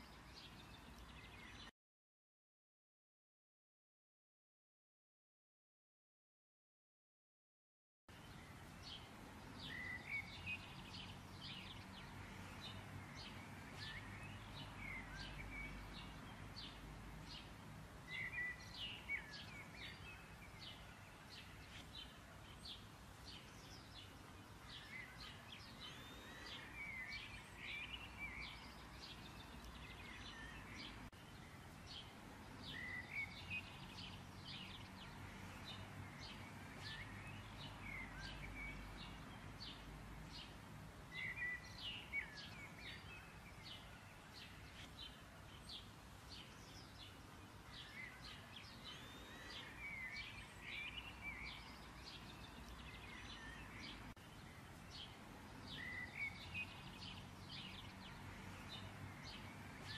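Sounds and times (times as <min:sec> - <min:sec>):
birds chirping and singing: 0:08.2 - 0:59.9.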